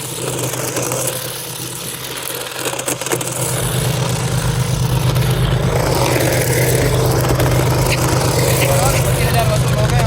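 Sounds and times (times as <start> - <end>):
rc car motor humming and hissing: 0.0 - 10.0.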